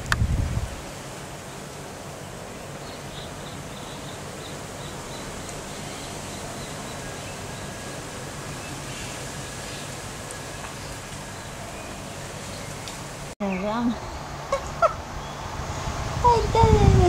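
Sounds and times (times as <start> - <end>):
rustling leaves: 0.0 - 17.0
wind: 0.0 - 17.0.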